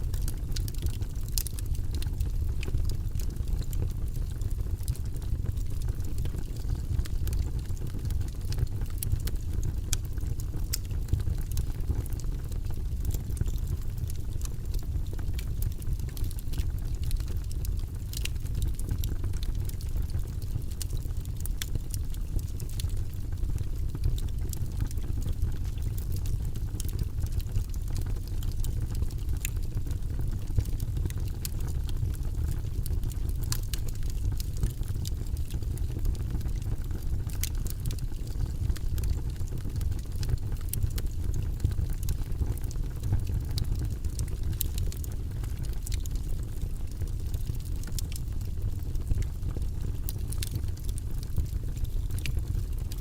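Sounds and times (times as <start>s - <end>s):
fire crackling and popping: 0.0s - 53.0s
low rumble of fire: 0.0s - 53.0s.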